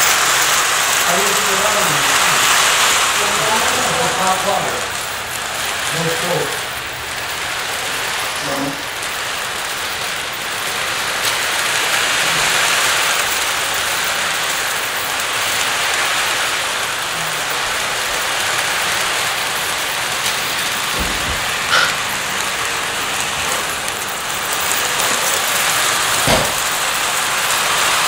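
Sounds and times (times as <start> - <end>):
toy train rolling on track: 0.0 - 28.0.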